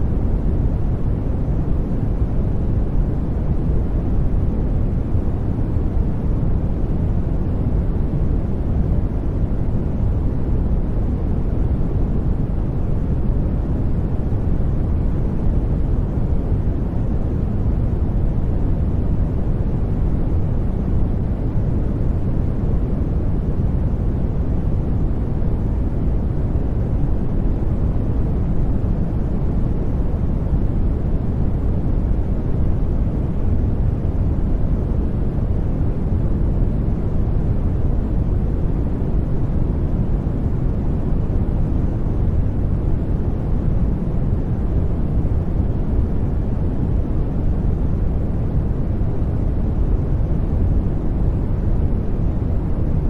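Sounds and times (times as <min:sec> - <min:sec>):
deep white noise: 0:00.0 - 0:53.0.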